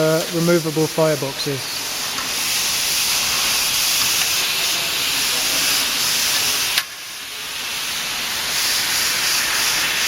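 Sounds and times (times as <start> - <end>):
steady hissing noise: 0.0 - 10.0.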